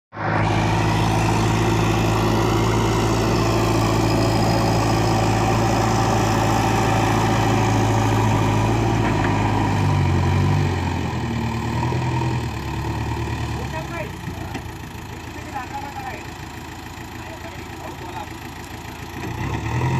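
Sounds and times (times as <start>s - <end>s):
vehicle engine idling: 0.4s - 19.9s.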